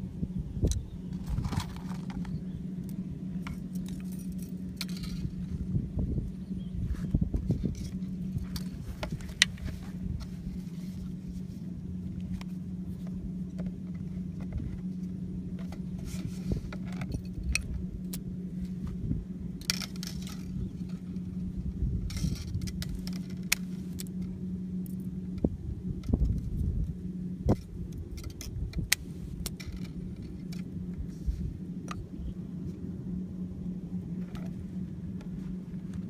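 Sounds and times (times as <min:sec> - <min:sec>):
low hum and rumble: 0:00.0 - 0:36.0.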